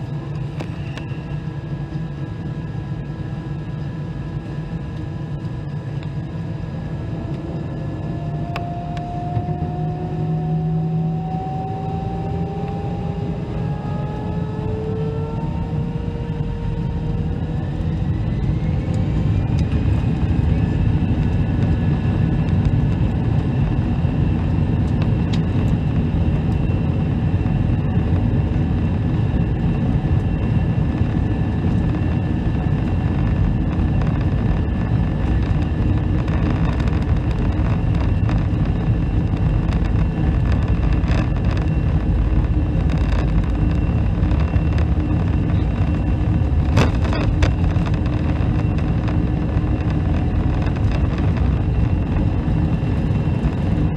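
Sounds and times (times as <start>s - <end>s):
jet engines whining: 0.0s - 53.9s
low rumble of takeoff roll: 0.0s - 53.9s.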